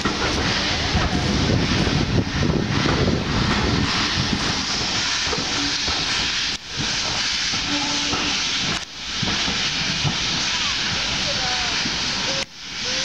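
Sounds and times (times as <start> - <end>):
steam hissing: 0.0 - 13.0
train carriages rumbling: 0.0 - 13.0.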